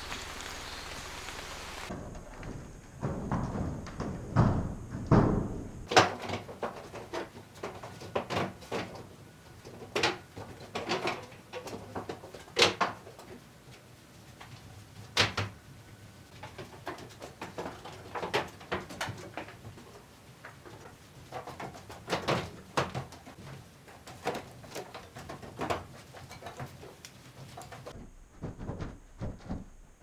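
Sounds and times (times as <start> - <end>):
wooden pallets knocking and clattering: 1.9 - 15.6, 16.3 - 29.8.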